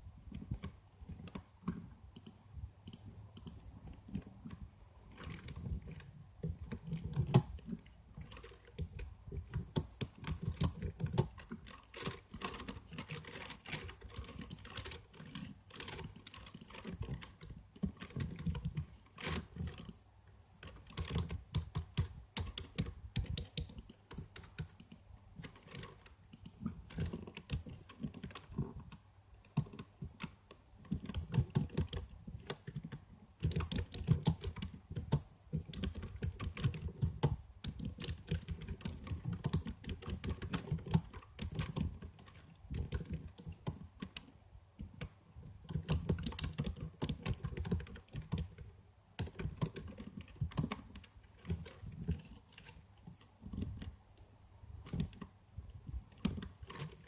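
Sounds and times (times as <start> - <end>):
computer keyboard typing: 0.3 - 20.0, 20.6 - 54.0, 54.8 - 55.3, 56.1 - 57.0.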